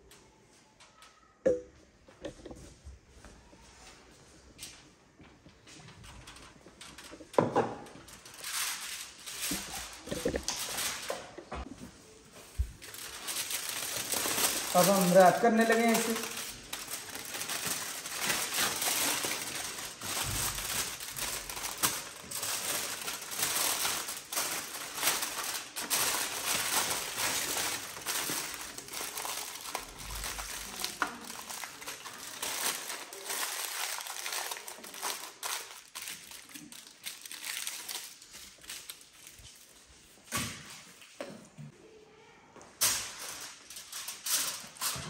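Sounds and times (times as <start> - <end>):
aluminium foil crinkling: 5.8 - 40.1, 42.8 - 45.0.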